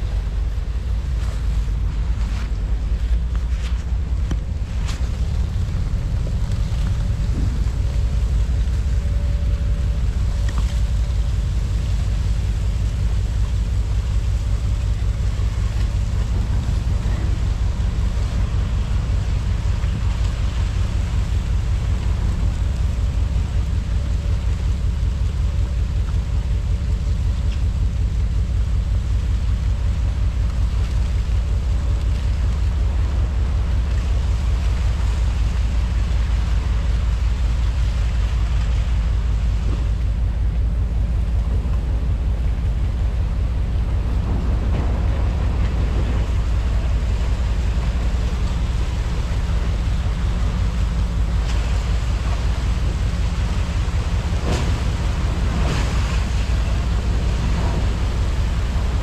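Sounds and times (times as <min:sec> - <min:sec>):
faint steady hum: 0:00.0 - 0:59.0
ferry engines rumbling: 0:00.0 - 0:59.0
wind buffeting microphone: 0:00.0 - 0:59.0.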